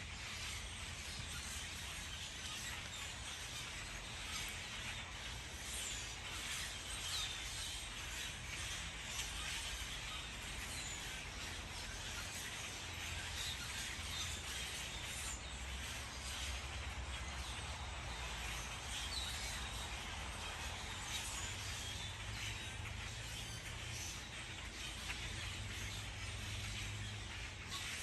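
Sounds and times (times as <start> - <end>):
bird chirps: 0.0 - 28.0.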